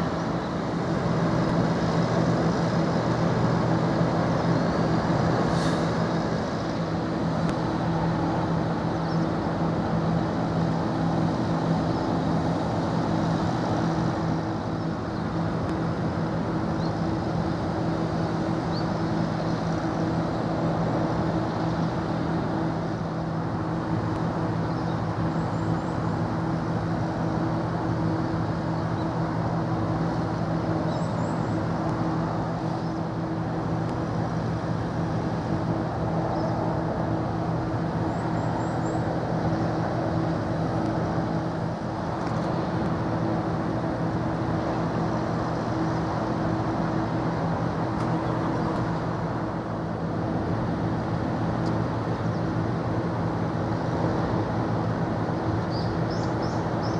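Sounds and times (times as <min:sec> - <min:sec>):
distant traffic drone: 0:00.0 - 0:56.9.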